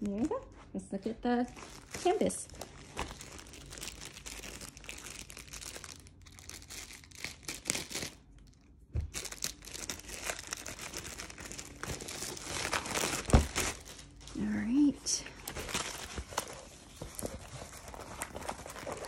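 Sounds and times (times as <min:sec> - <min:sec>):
plastic wrapping crinkling: 0:01.1 - 0:19.0.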